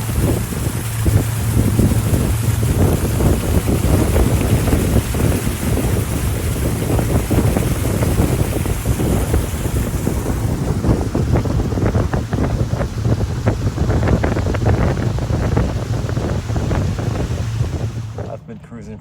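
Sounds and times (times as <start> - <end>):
wind buffeting microphone: 0.0 - 18.4
boat motor humming: 0.0 - 19.0
water rushing along hull: 0.0 - 19.0.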